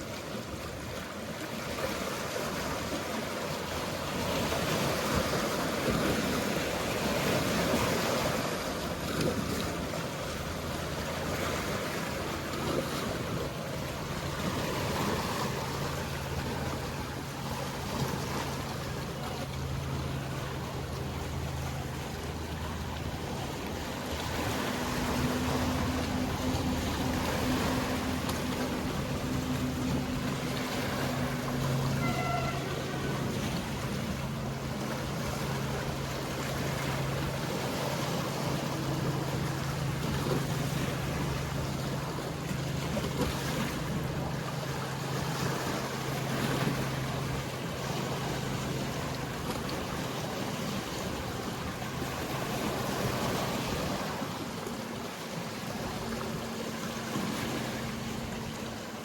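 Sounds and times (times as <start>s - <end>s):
boat engine humming: 0.0s - 59.0s
sea water wash: 0.0s - 59.0s
higher engine tone: 3.5s - 59.0s.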